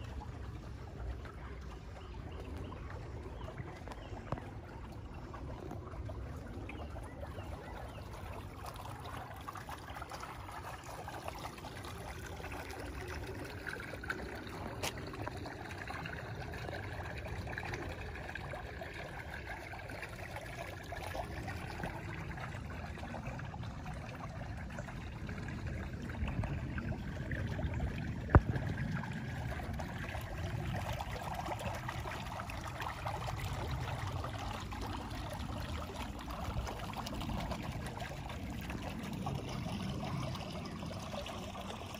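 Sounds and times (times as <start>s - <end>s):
water trickling in pond: 0.0s - 41.9s.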